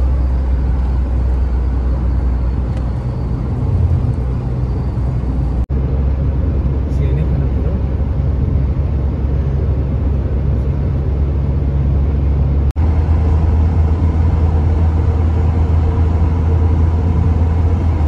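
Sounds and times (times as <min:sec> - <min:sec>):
road and engine noise while driving: 0:00.0 - 0:18.0.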